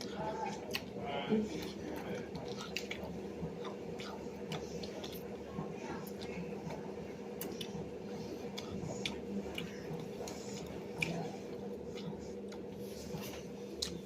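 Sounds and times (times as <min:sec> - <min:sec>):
person chewing food: 0:00.0 - 0:14.0
steady low hum: 0:00.0 - 0:14.0.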